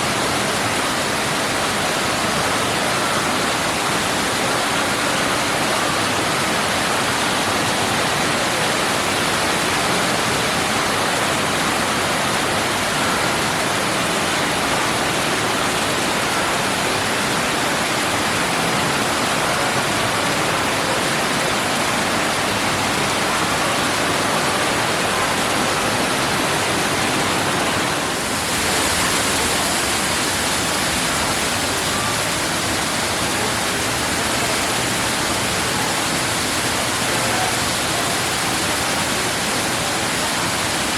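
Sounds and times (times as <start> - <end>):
water falling into a pool: 0.0 - 40.9.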